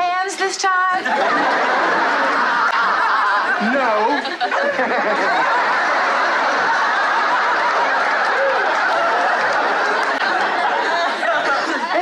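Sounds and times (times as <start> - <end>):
studio audience laughing: 0.8 - 12.0.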